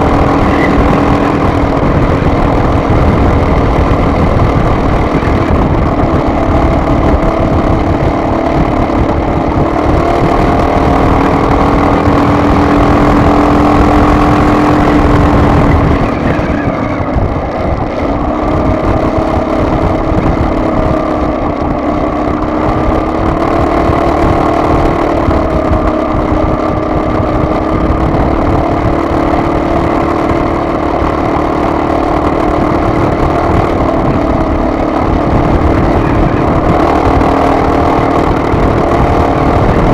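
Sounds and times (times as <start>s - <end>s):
road and wind rumble: 0.0s - 39.9s
vehicle engine running: 0.0s - 39.9s.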